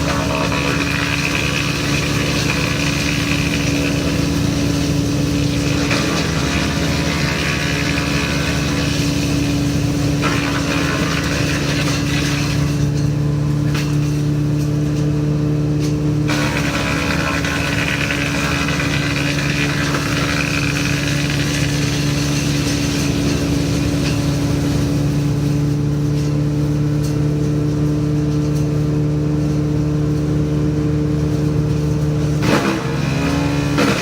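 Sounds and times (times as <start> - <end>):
rough grinding noise: 0.0 - 28.7, 30.9 - 34.0
woodchipper engine running: 0.0 - 34.0.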